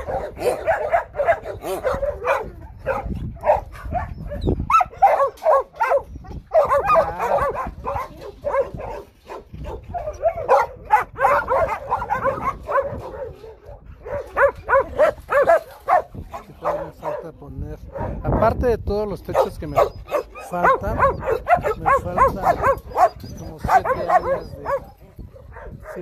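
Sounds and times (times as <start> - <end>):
dogs barking: 0.0 - 18.6, 19.2 - 26.0.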